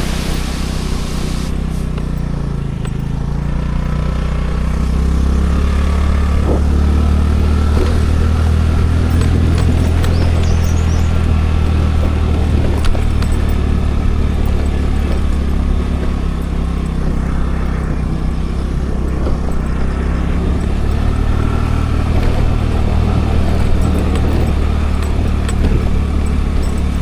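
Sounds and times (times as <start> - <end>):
road and wind noise: 0.0 - 27.0
scooter engine drone: 0.0 - 27.0.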